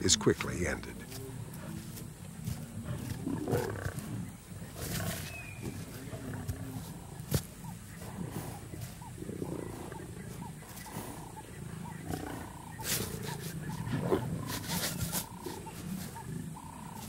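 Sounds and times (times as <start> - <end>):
lions growling: 0.0 - 17.0.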